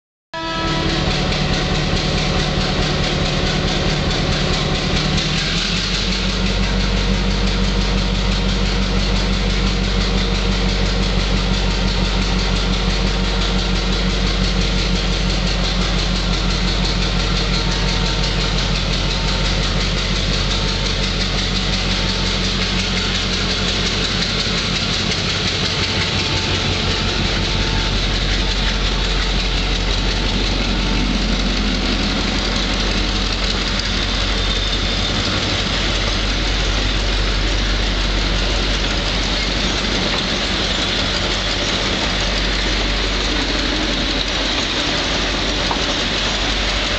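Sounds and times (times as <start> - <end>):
diesel locomotive engine: 0.3 - 46.9
train rolling past: 0.4 - 46.9.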